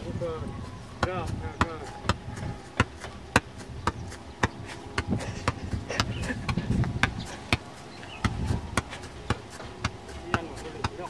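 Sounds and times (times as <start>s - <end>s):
ball bouncing and being struck: 1.0s - 11.0s.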